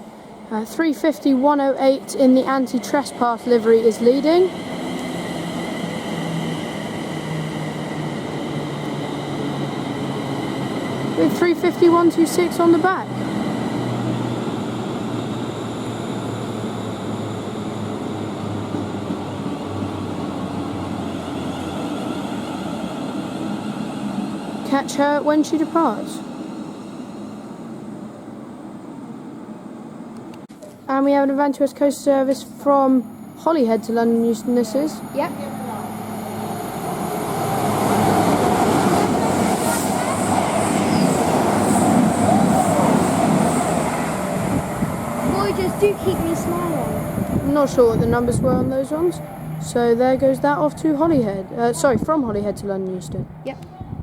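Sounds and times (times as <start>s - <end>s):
electric train running hum: 0.0s - 54.0s.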